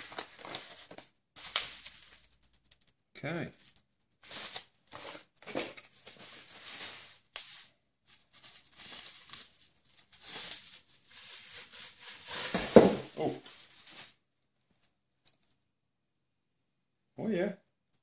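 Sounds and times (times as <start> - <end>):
bubble wrap rustling and crinkling: 0.0 - 15.0.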